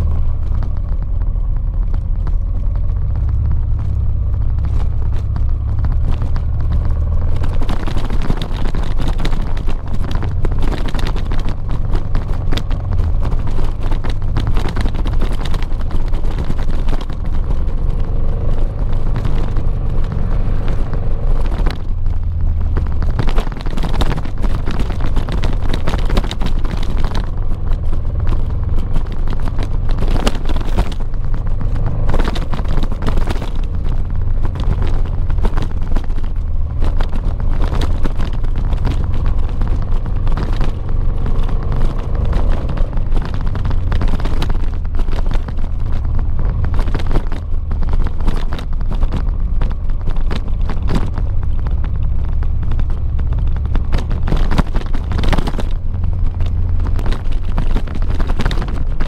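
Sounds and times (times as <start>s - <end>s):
knocks and rattles: 0.0s - 59.0s
motorcycle engine running: 0.0s - 59.0s
wind buffeting microphone: 0.0s - 59.0s.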